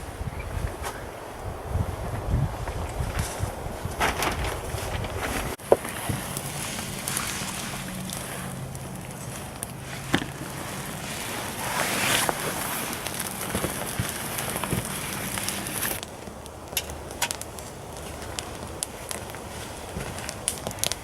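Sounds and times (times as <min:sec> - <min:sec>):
steady rushing hiss: 0:00.0 - 0:21.0
campfire crackling and popping: 0:01.4 - 0:21.0.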